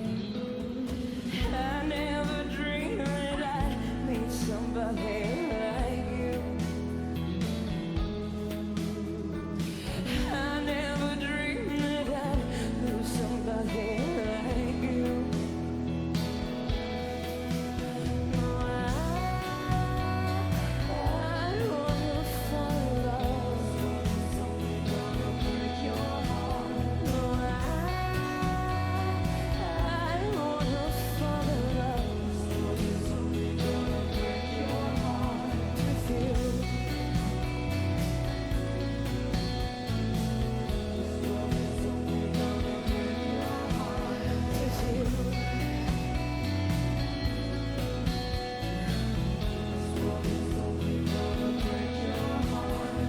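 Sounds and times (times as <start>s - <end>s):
pop song with vibrato vocals: 0.0s - 53.0s
instrumental accompaniment and bass: 1.0s - 53.0s.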